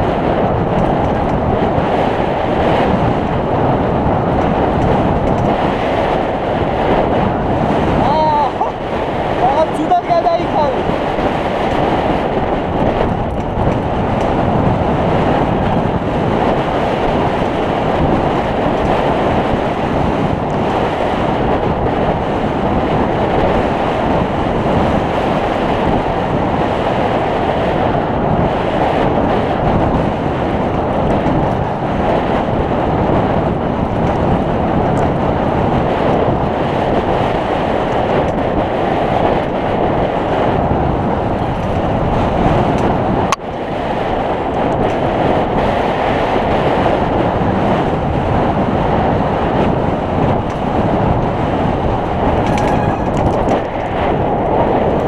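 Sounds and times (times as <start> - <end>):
mountain bike rattling on dirt trail: 0.0 - 25.8, 28.2 - 38.8, 39.6 - 55.0
wind buffeting microphone: 0.0 - 55.0.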